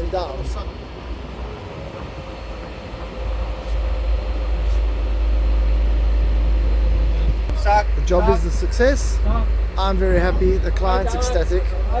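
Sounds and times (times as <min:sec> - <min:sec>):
crane deep mechanical rumble: 0:00.0 - 0:12.0.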